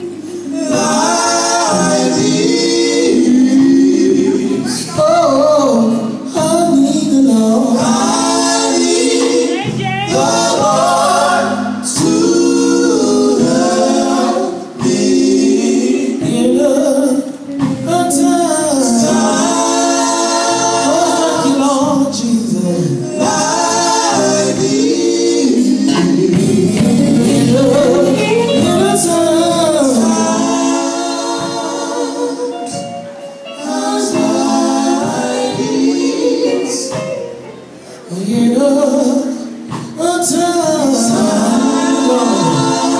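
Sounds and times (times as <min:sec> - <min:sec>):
men's vocal group singing: 0:00.0 - 0:42.9.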